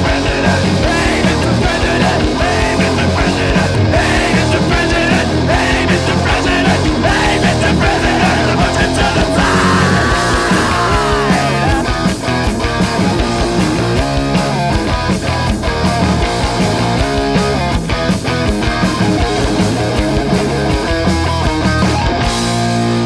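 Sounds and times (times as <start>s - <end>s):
punk rock band playing: 0.0s - 23.0s.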